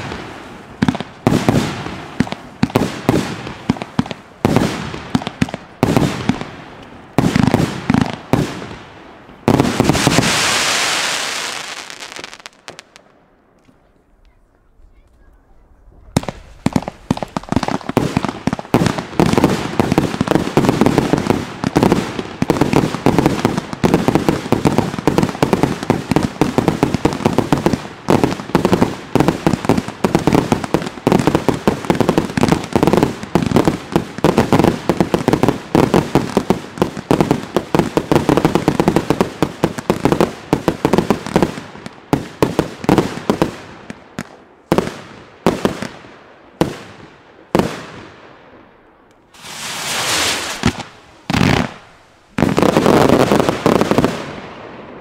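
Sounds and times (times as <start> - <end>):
aerial fireworks bangs and crackling: 0.0 - 13.1, 16.1 - 48.4, 49.3 - 55.0.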